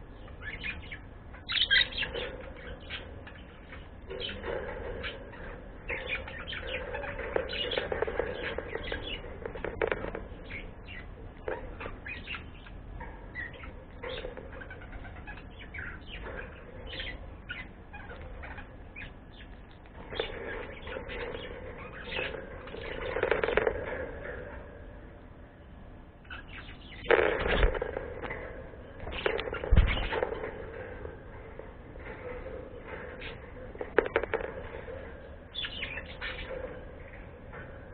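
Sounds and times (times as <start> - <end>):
pet birds chirping: 0.0 - 37.9.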